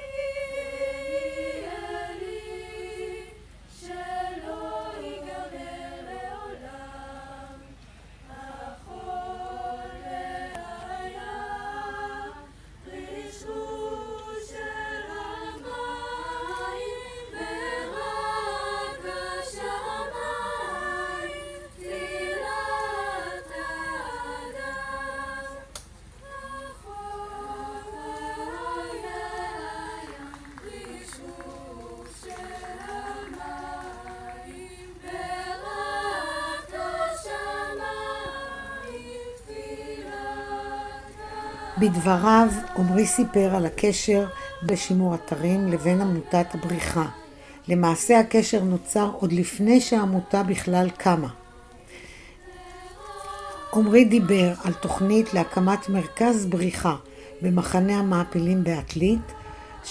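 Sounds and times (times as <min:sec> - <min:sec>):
choir singing a cappella: 0:00.0 - 0:59.9.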